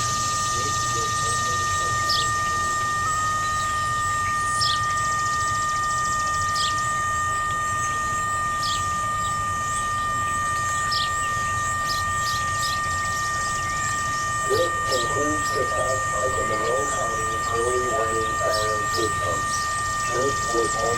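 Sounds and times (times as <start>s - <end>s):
electronic siren two-tone buzzing: 0.0s - 20.9s.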